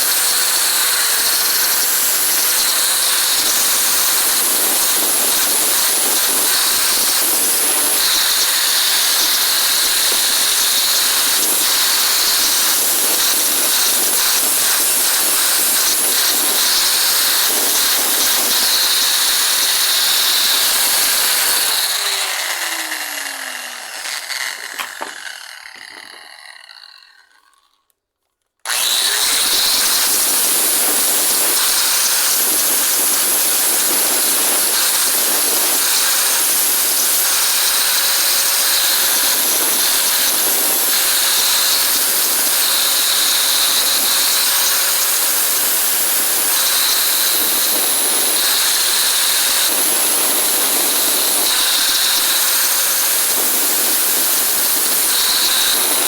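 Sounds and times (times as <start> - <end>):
electric power tool running: 0.0 - 27.9, 28.6 - 56.0.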